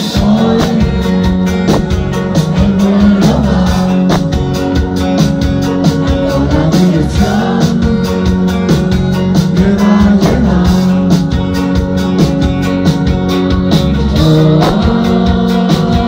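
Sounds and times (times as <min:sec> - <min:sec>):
rock song: 0:00.0 - 0:16.0.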